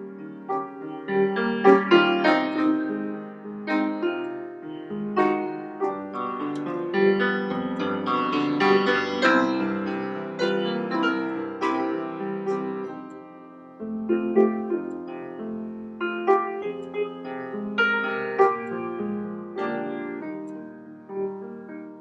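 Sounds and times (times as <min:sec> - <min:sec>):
slow solo grand piano: 0:00.0 - 0:22.0.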